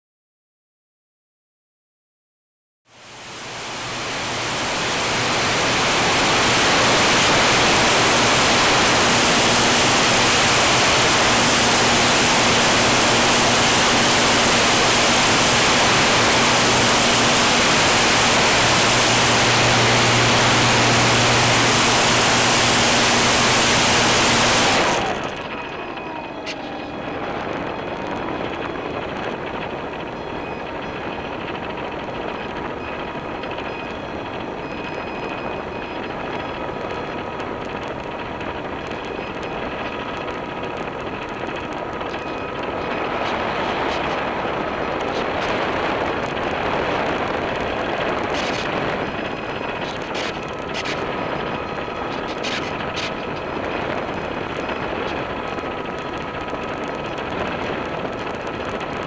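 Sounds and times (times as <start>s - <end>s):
propeller motor humming: 3.0s - 59.0s.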